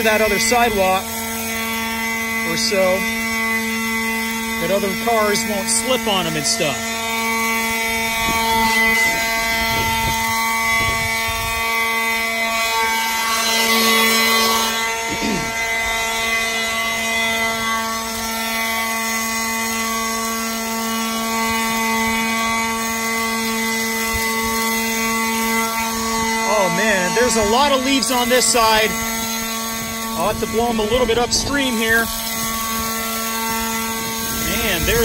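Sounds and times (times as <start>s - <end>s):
leaf blower fan whine: 0.0s - 35.0s.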